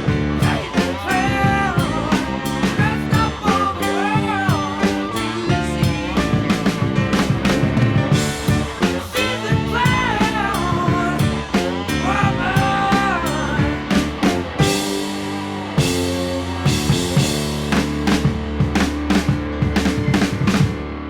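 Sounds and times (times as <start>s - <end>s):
hard rock band playing: 0.0s - 21.0s.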